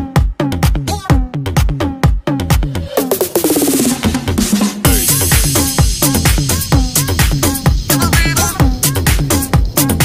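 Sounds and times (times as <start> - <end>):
upbeat electronic dance music: 0.0 - 10.0.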